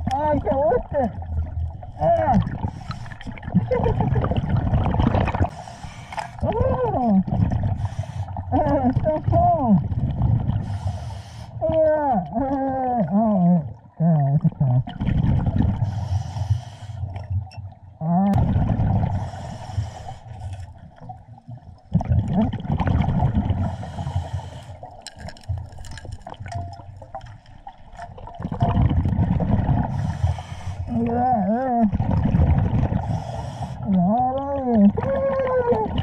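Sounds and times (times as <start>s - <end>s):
exhaled bubbles rumbling: 0.0s - 36.0s.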